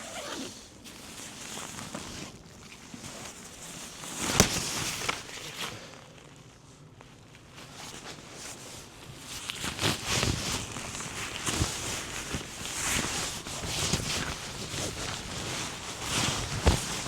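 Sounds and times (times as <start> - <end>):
rustling in vegetation: 0.0 - 17.0.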